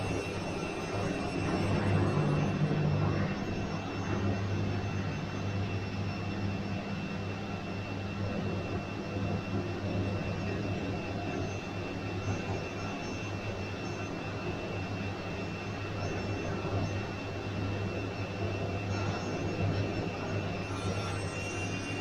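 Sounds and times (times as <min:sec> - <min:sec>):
high-pitched whine: 0:00.0 - 0:22.0.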